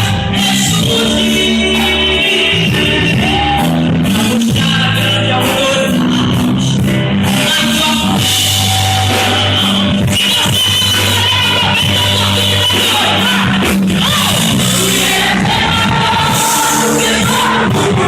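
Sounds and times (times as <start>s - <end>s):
band playing rock gospel song: 0.0s - 18.0s
person singing: 0.0s - 18.0s.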